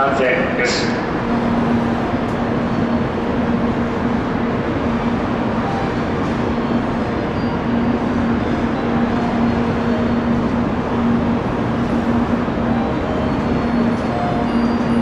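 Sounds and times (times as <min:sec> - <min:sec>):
train rumbling into platform: 0:00.0 - 0:15.0.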